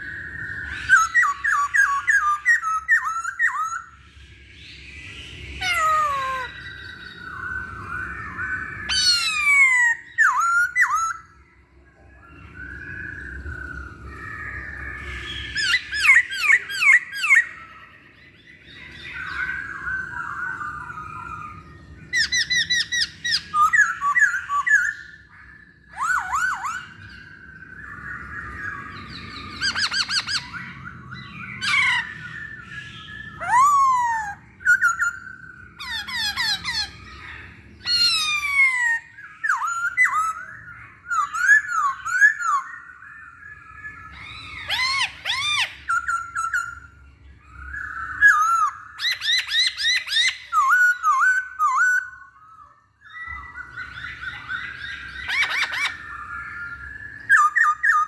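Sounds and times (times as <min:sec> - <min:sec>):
bird calling and singing: 0:00.0 - 0:58.0.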